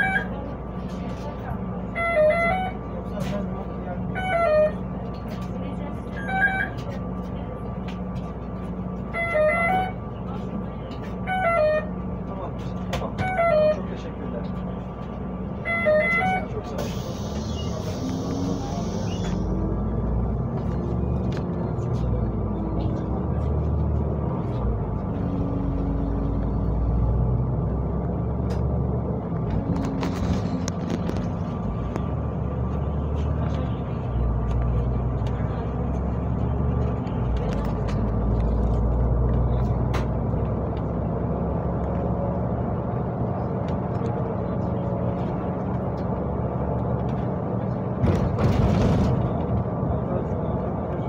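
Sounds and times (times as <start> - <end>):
bus engine and road noise: 0.0 - 51.0.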